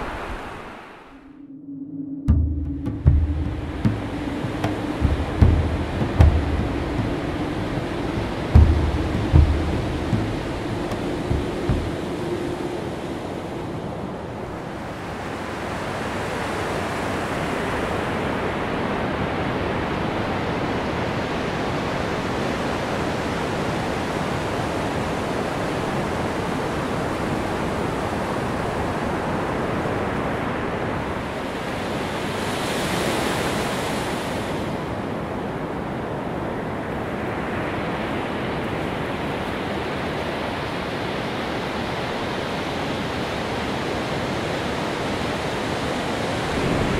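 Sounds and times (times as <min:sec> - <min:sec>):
ocean surf on sand beach: 0:00.0 - 0:46.9.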